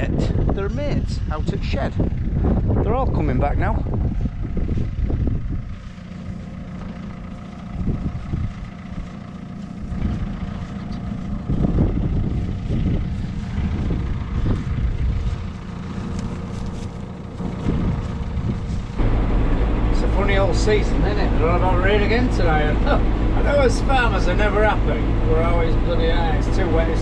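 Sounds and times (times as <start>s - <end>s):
engine drone inside tractor cab: 0.0s - 27.0s
tractor engine running: 0.0s - 27.0s
wind buffeting microphone: 0.0s - 27.0s.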